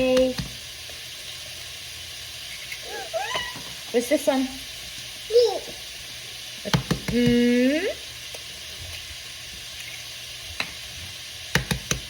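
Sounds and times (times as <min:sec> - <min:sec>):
sausage sizzling in a pan: 0:00.0 - 0:12.0.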